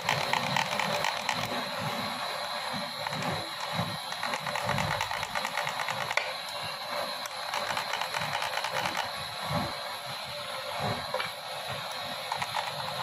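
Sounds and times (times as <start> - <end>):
rapid mechanical clicking: 0.0 - 9.8, 11.1 - 13.0
steady high whine: 0.0 - 13.0.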